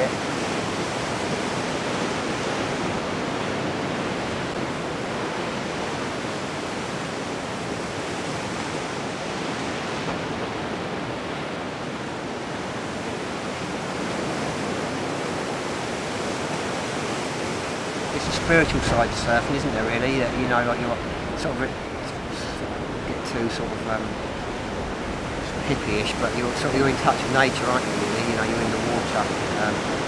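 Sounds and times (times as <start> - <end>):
surf rushing: 0.0 - 30.0.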